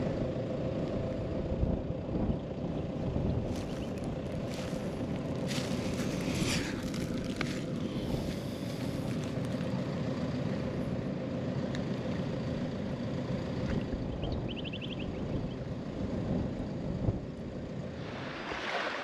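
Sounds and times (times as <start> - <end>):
faint constant hum: 0.0 - 19.0
vehicle driving rumble: 0.0 - 19.0.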